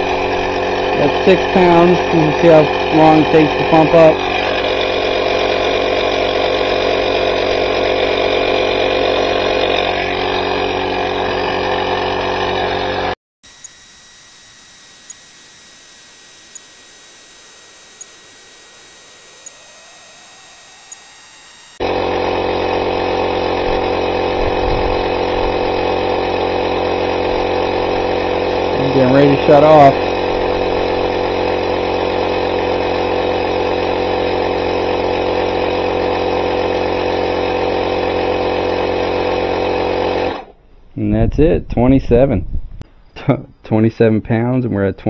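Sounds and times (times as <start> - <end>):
air compressor running: 0.0 - 40.6.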